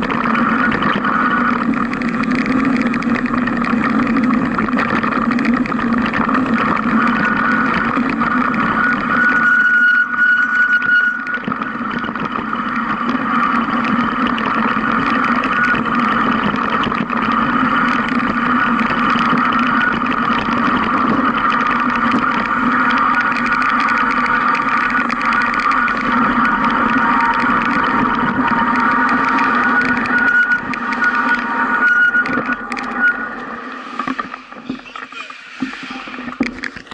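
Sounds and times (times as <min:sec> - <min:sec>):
mountain bike riding rumble: 0:00.0 - 0:36.9.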